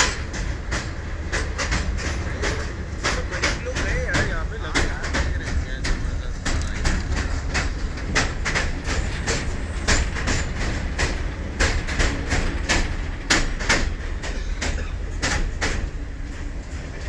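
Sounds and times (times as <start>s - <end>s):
train rumble: 0.0s - 17.0s
wheels clacking over rail joints: 0.0s - 17.0s.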